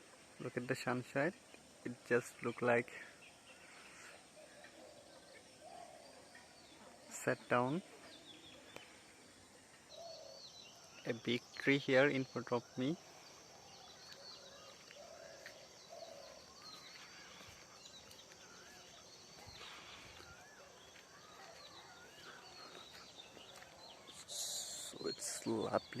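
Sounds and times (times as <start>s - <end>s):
faint whistled birdsong: 0.0s - 26.0s
insects buzzing: 0.0s - 26.0s.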